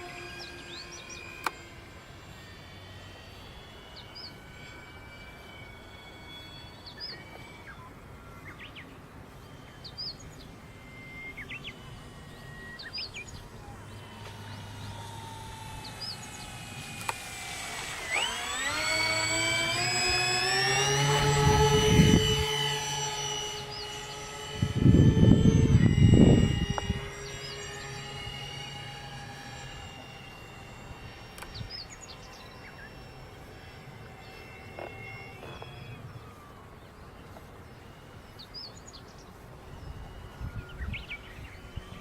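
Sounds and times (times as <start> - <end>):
bird chirps: 0.0 - 2.5, 3.2 - 16.8, 20.8 - 24.6, 25.4 - 42.0
electric motors and propellers whining: 0.0 - 42.0.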